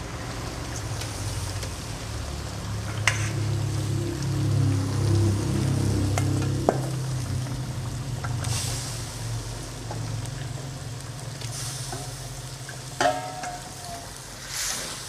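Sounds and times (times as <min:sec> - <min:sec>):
sauce sizzling in a wok: 0:00.0 - 0:15.0.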